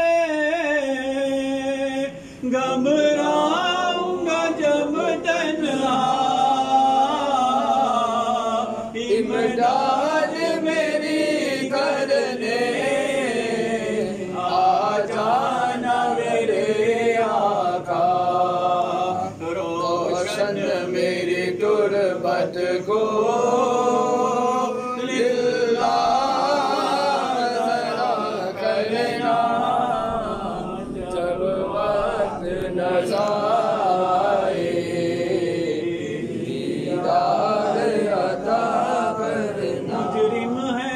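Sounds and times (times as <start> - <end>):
man chanting a prayer: 0.0 - 40.9.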